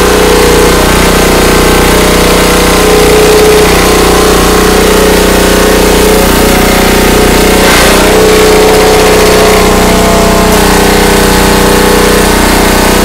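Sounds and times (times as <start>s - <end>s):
pressure washer motor droning: 0.0s - 13.0s
water jet hissing: 0.0s - 13.0s.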